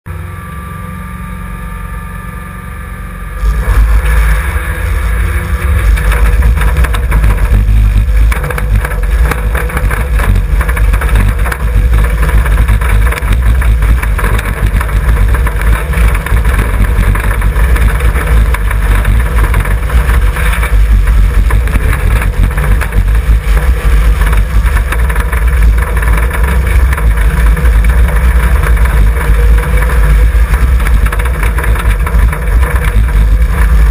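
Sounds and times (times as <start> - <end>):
car engine revving hard: 3.2 - 33.9.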